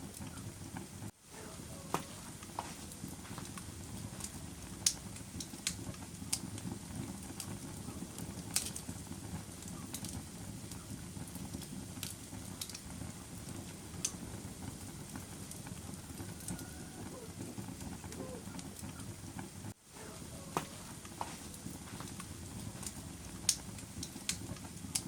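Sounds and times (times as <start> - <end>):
fire crackles and pops: 0.0 - 25.0
low rumble of flames: 0.0 - 25.0.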